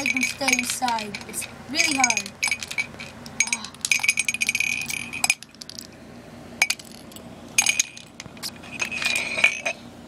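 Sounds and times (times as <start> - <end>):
plastic figures clinking: 0.0 - 6.0, 6.6 - 9.8.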